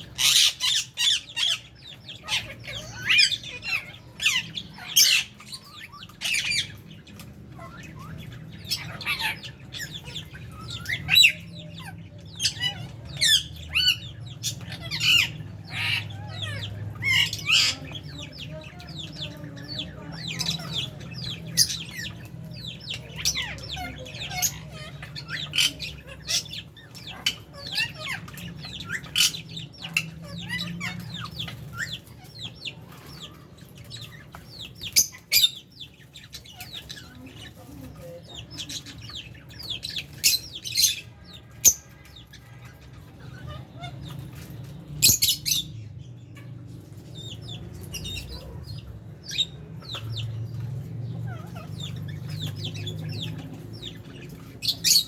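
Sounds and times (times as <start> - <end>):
birds chirping and squeaking: 0.0 - 55.0.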